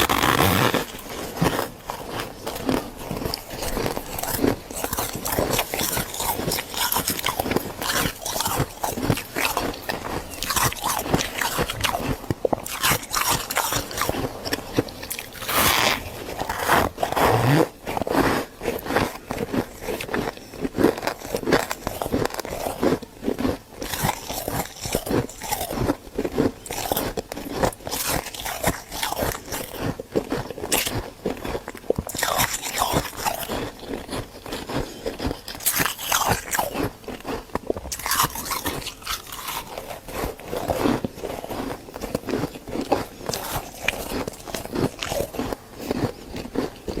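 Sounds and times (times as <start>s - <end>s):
chewing crunchy frost: 0.0s - 47.0s.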